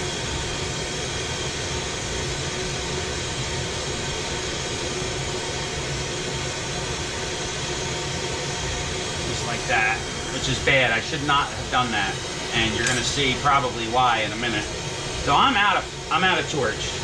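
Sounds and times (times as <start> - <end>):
torch burning with rushing hiss: 0.0 - 17.0.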